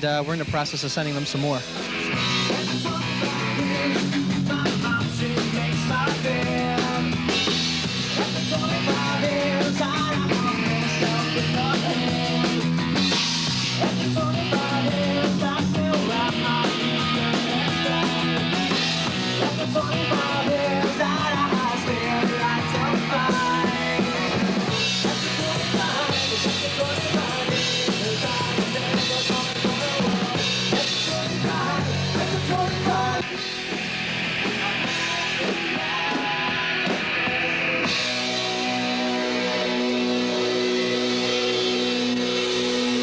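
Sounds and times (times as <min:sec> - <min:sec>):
rock band music: 0:00.0 - 0:43.0.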